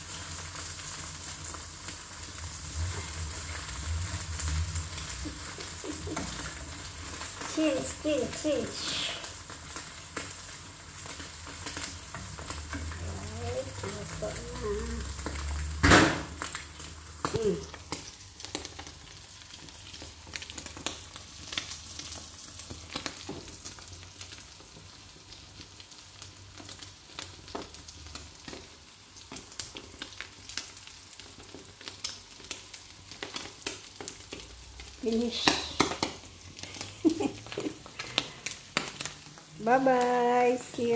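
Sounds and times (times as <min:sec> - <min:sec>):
eggs sizzling in a pan: 0:00.0 - 0:40.9.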